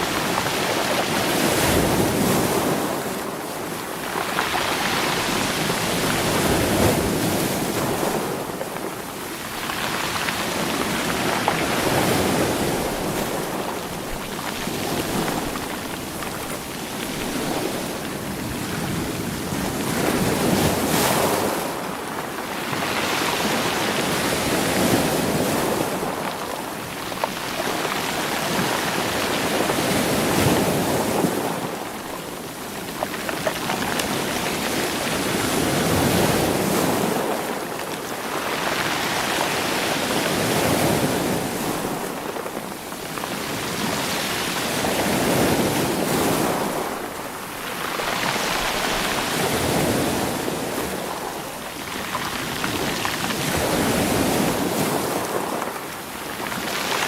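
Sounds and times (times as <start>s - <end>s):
waves washing over rocky shore: 0.0s - 57.0s.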